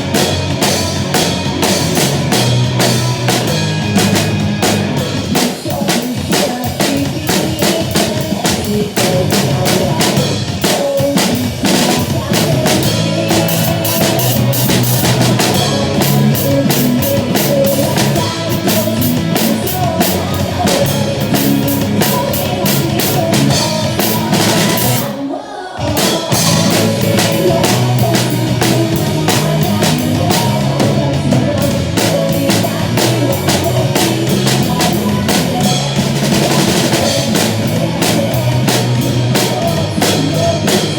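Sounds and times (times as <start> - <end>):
drum kit playing: 0.0 - 25.2, 25.8 - 40.9
rock backing track: 0.0 - 40.9.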